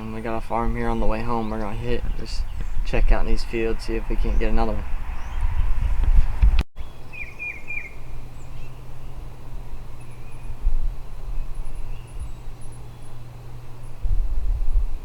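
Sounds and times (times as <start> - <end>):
steady low hum: 0.0 - 5.2, 6.0 - 15.0
songbird chirping: 0.0 - 5.9, 6.8 - 14.6
low rumbling wind: 0.0 - 15.0.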